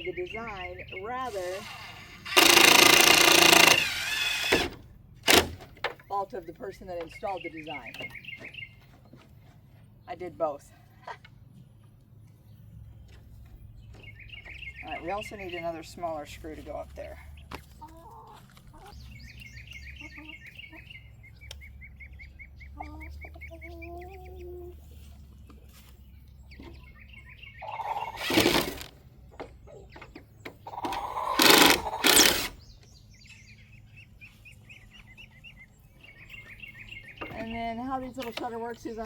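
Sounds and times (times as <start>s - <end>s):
small birds chirping: 0.0s - 39.0s
chickens clucking: 6.0s - 39.0s.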